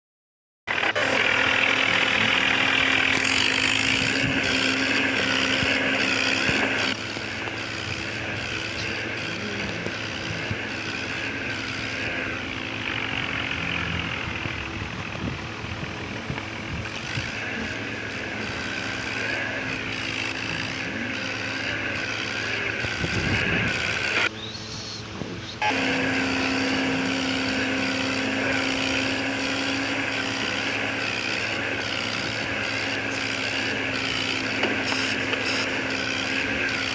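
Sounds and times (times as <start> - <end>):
tractor engines revving hard: 0.7 - 36.9.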